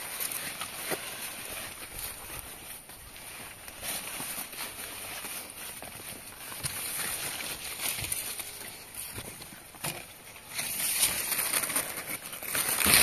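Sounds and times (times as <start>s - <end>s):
corn leaves rustling: 0.0s - 13.0s
footsteps through cornfield: 0.0s - 13.0s.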